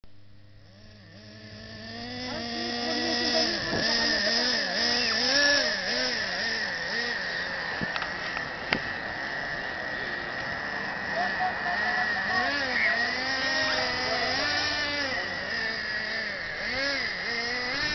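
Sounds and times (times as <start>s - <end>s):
toy truck motor revving: 0.6s - 17.9s.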